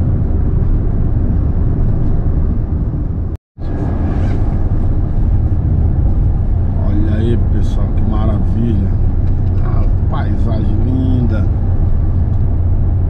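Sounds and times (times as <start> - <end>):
van driving on highway: 0.0 - 13.0.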